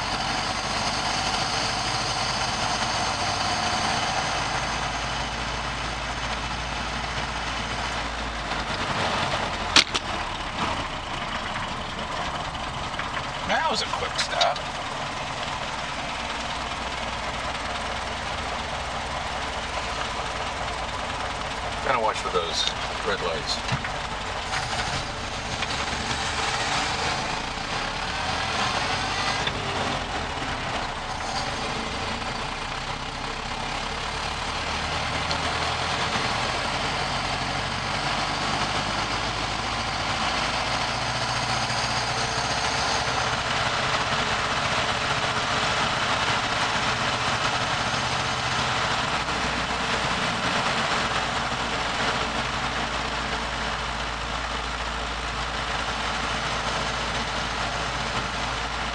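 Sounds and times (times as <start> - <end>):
truck engine running: 0.0 - 58.9.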